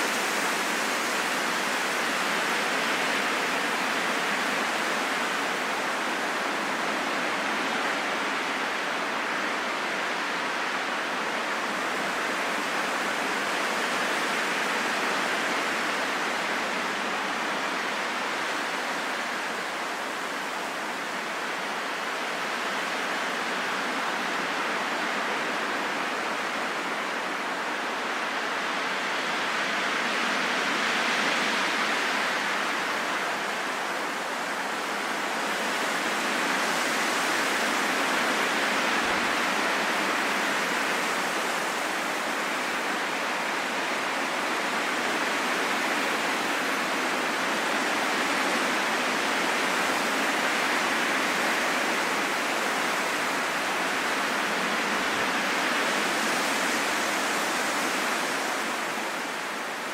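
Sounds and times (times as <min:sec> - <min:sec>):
wind blowing in gusts: 0:00.0 - 0:59.9.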